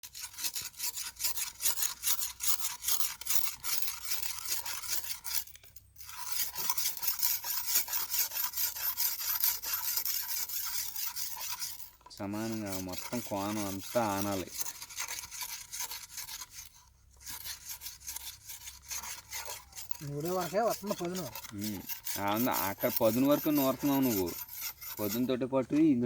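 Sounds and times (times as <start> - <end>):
sickle blade being whetted: 0.0 - 26.0.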